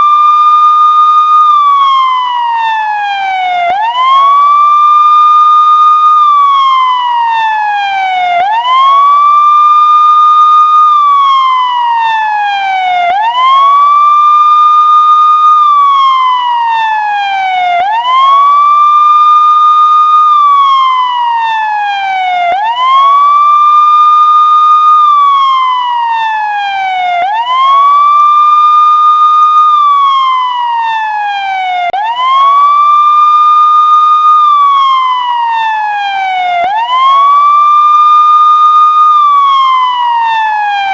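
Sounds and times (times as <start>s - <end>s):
emergency vehicle siren wailing: 0.0s - 40.9s.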